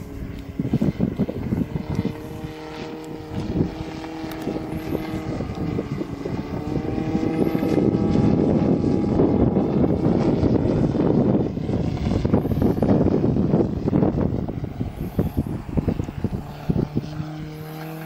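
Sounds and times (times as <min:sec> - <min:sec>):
model aircraft engine droning: 0:00.0 - 0:18.0.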